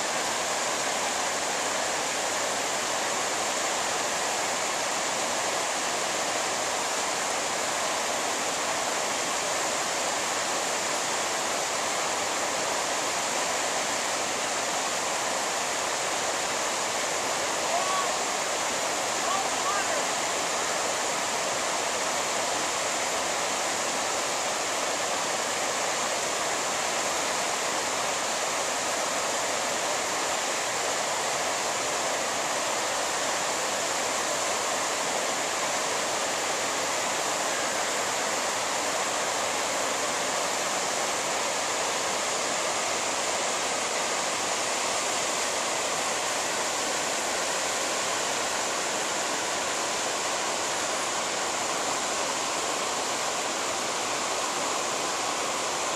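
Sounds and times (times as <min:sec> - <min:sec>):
river rushing over boulders: 0:00.0 - 0:55.9.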